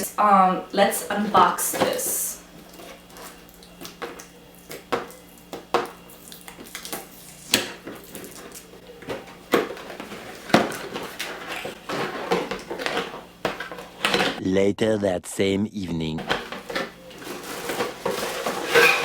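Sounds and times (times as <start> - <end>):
cardboard and plastic packaging handled: 0.0 - 14.4, 16.2 - 19.0.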